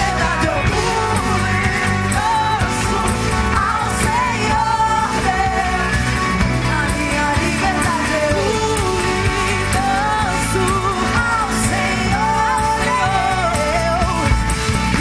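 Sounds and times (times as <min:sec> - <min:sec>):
melodic lead line bending: 0:00.0 - 0:15.0
pop-rock band playing: 0:00.0 - 0:15.0.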